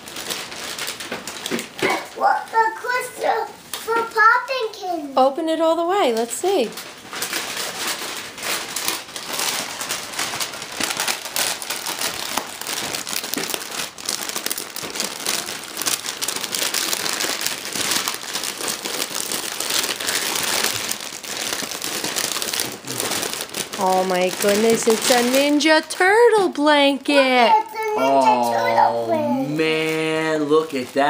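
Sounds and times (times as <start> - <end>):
foil wrapping paper tearing: 0.0 - 5.4, 6.0 - 31.0.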